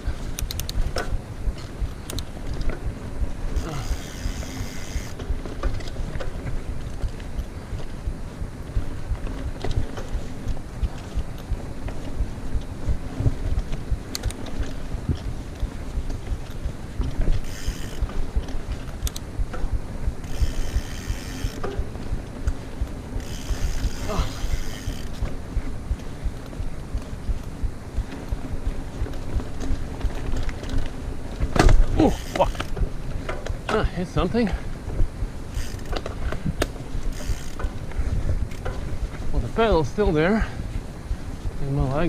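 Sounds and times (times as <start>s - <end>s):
bike ticking and rattling: 0.0s - 42.0s
bike tyres on dirt: 0.0s - 42.0s
wind rumbling on microphone: 0.0s - 42.0s
freehub buzzing: 1.4s - 9.2s, 9.8s - 30.6s, 31.8s - 33.2s, 35.0s - 38.8s.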